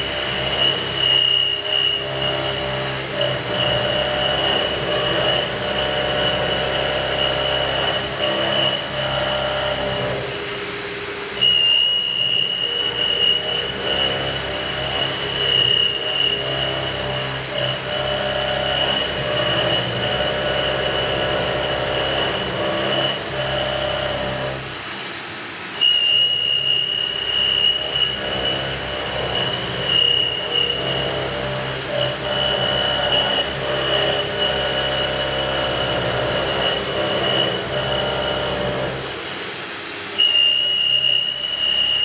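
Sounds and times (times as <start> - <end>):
high spindle whine: 0.0 - 42.0
milling machine cutting metal: 0.0 - 42.0.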